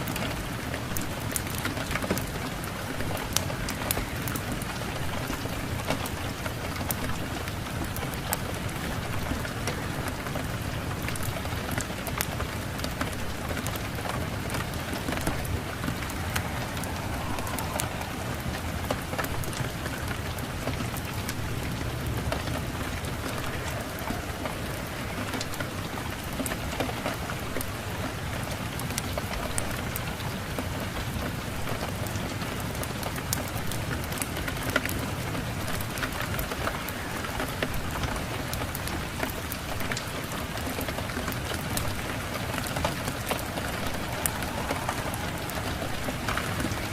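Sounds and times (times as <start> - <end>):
wood fire crackling: 0.0 - 30.4, 31.0 - 46.9
steady rain hiss: 0.0 - 46.9.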